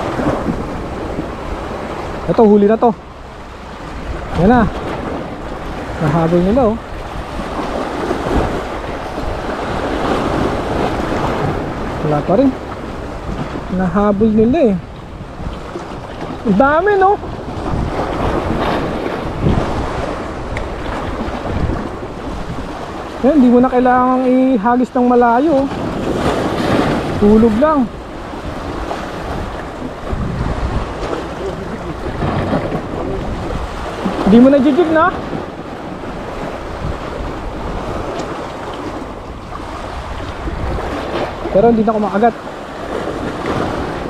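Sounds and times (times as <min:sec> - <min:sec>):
sea waves washing: 0:00.0 - 0:44.0
wind buffeting microphone: 0:00.0 - 0:44.0.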